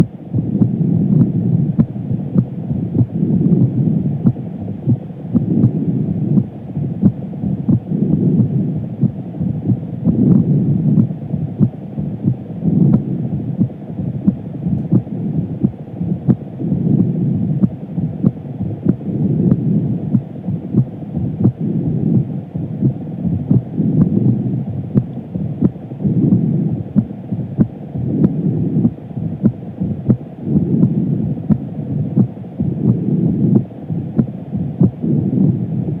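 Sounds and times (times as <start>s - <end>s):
heartbeat through stethoscope: 0.0s - 36.0s.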